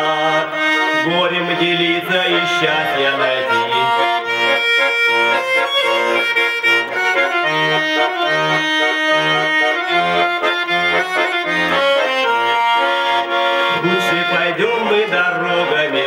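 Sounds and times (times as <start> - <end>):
button accordion melody: 0.0 - 16.0.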